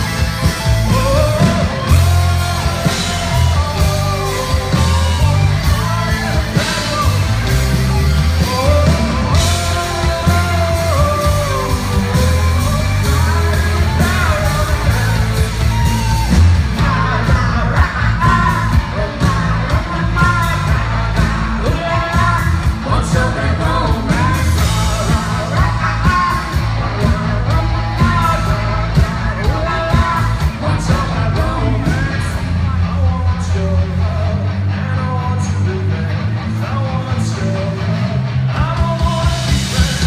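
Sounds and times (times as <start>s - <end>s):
person singing: 0.0s - 40.0s
rock band playing: 0.0s - 40.0s.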